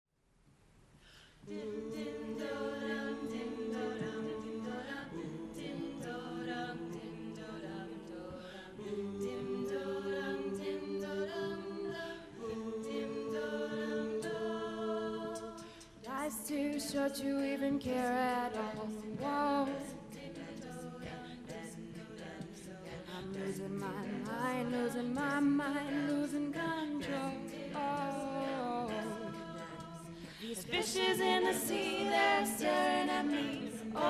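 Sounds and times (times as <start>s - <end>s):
vocal group singing in harmony: 1.1s - 34.0s.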